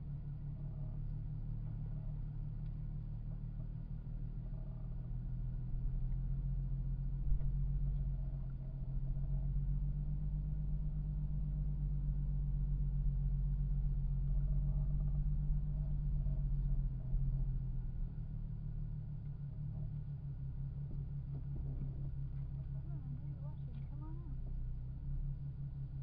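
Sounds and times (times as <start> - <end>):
car engine humming: 0.0 - 26.0.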